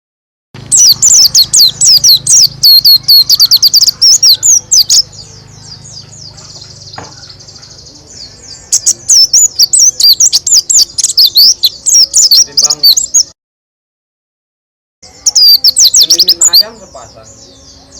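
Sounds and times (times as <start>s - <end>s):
bird singing rapid chirps: 0.6s - 13.4s, 15.0s - 17.9s.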